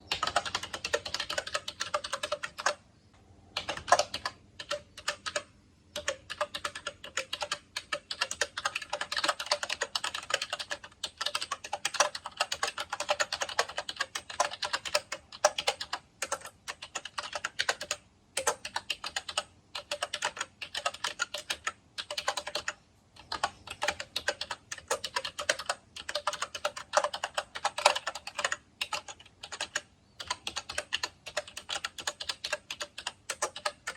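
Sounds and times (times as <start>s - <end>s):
keyboard typing clicks: 0.0s - 2.8s, 3.6s - 33.9s.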